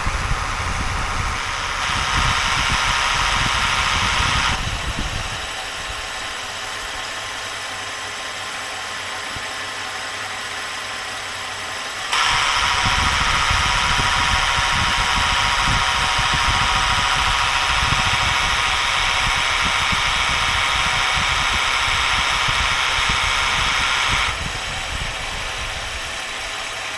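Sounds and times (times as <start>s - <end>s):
compressor high-pitched whirring: 0.0s - 26.9s.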